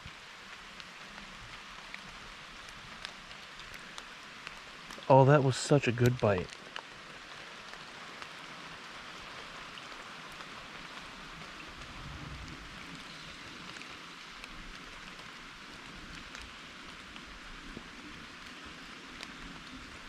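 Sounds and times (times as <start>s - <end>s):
rain drop ticks: 0.0s - 20.0s
steady rain falling: 0.0s - 20.0s.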